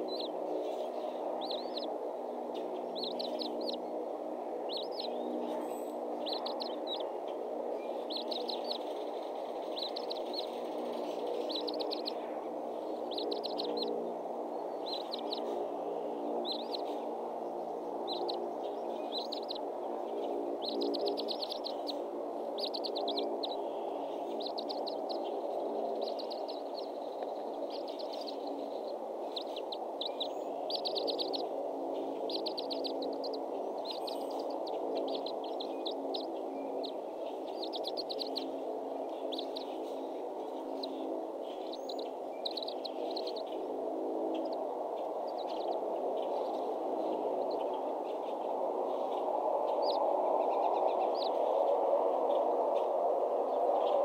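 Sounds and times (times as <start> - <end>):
songbirds trilling: 0.0 - 54.0
steady low hum: 0.0 - 54.0.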